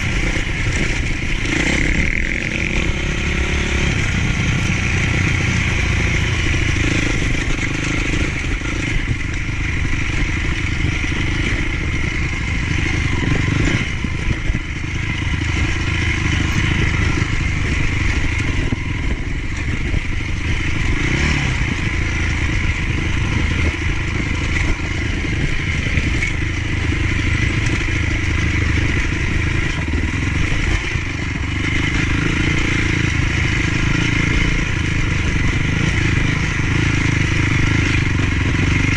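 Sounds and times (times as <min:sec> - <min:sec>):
motocross bike engine: 0:00.0 - 0:38.9.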